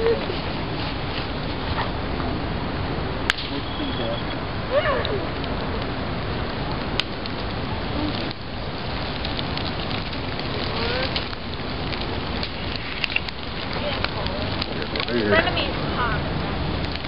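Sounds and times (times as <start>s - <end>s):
bonfire crackling and hissing: 0.0s - 17.0s.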